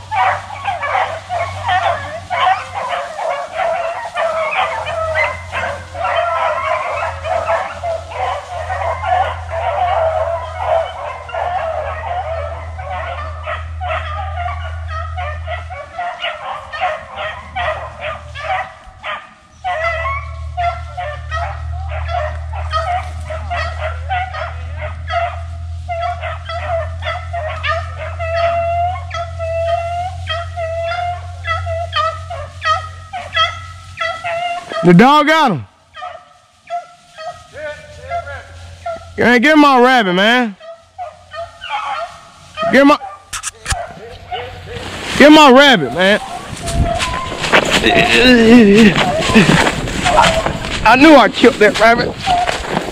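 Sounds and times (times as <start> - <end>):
dogs yipping and baying: 0.0 - 35.1, 35.8 - 39.6, 40.2 - 52.9.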